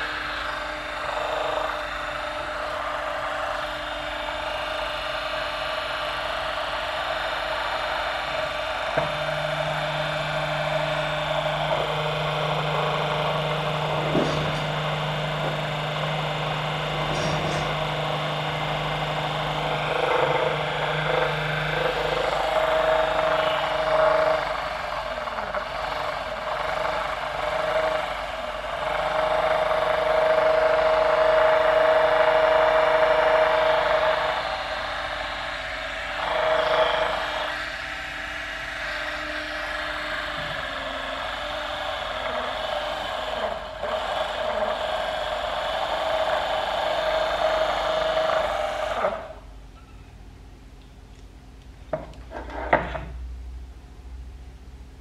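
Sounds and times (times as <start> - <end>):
electric motor humming and whining: 0.0 - 49.5.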